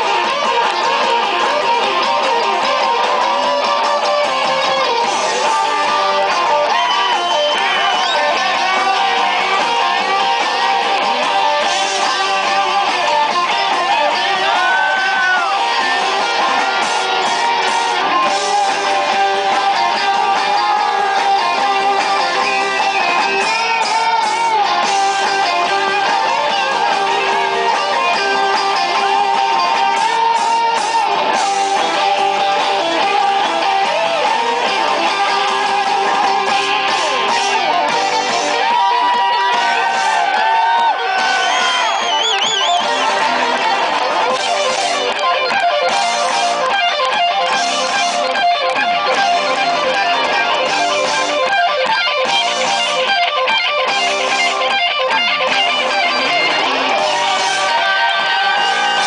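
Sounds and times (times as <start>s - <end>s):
bass guitar: 0.0s - 59.0s
electric guitar lead: 0.0s - 59.0s
strummed rhythm guitar: 0.0s - 59.0s.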